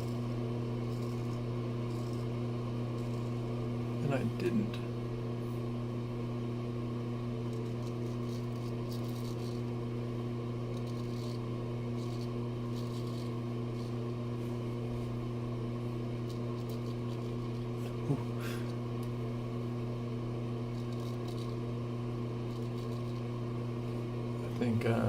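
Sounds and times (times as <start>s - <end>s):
razor scraping stubble: 0.0s - 4.7s, 7.2s - 19.2s, 20.4s - 25.0s
electrical hum: 0.0s - 25.0s.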